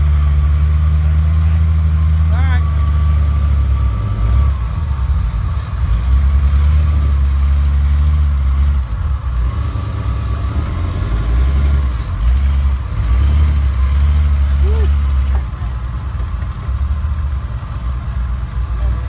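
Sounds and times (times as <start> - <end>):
engine running at low revs: 0.0 - 19.0.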